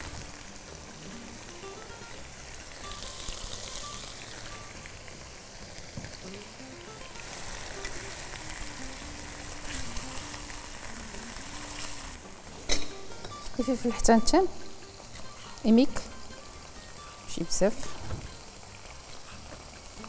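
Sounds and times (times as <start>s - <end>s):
meat and onion sizzling in oil: 0.0s - 20.0s.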